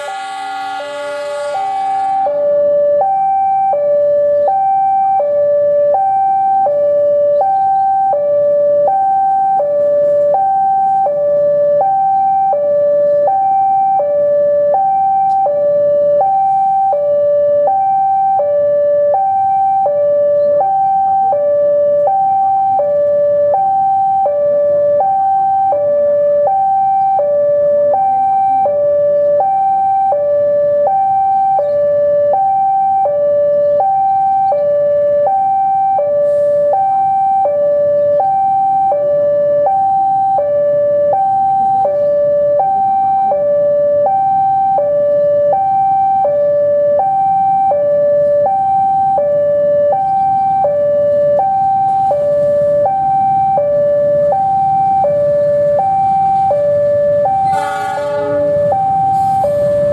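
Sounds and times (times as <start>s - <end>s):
two-tone warning signal: 0.0s - 59.9s.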